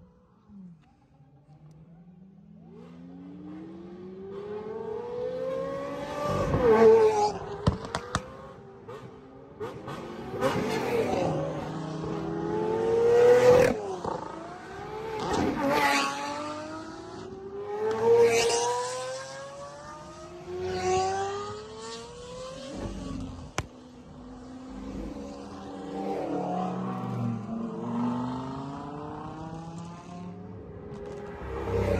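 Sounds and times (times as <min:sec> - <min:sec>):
supercars accelerating past: 0:02.6 - 0:31.9.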